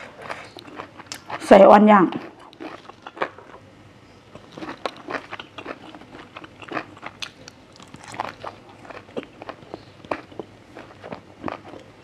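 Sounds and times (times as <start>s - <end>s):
wet chewing and smacking: 0.2s - 1.5s, 2.1s - 3.6s, 4.3s - 11.9s.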